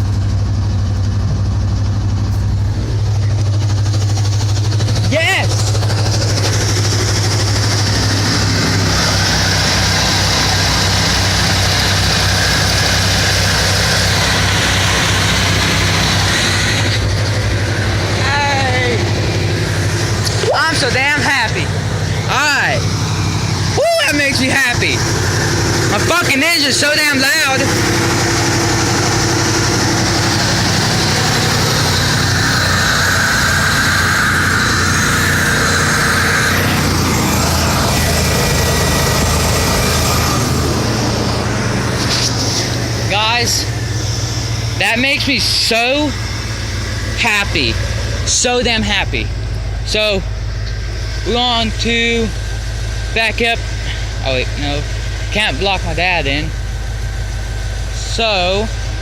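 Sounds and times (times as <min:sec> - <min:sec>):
high whine: 0:00.0 - 0:59.0
truck engine idling: 0:00.0 - 0:59.0.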